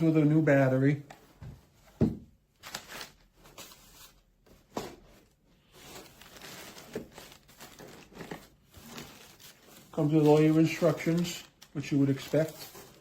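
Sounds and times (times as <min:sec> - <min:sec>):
paper and plastic rustling: 0:00.0 - 0:13.0.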